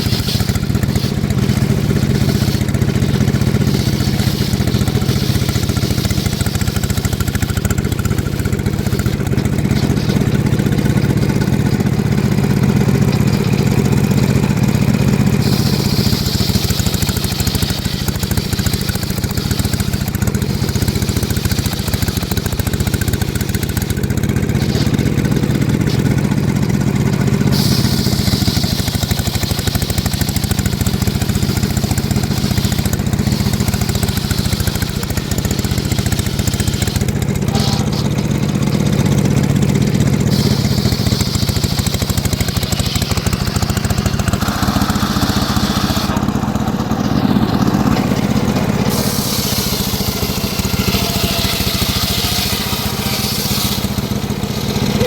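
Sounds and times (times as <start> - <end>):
saw blade rasping in wood: 0.0 - 55.0
sawmill engine running: 0.0 - 55.0.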